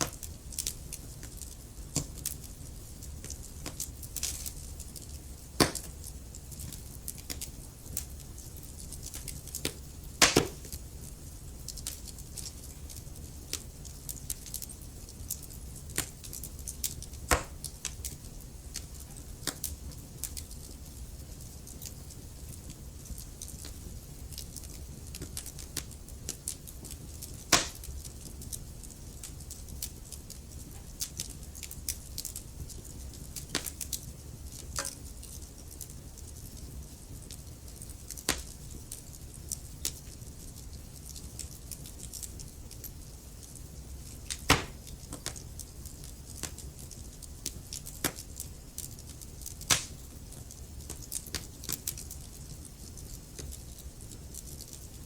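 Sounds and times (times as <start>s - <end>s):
sharp pops from fire: 0.0s - 55.0s
wood fire snapping: 0.0s - 55.0s.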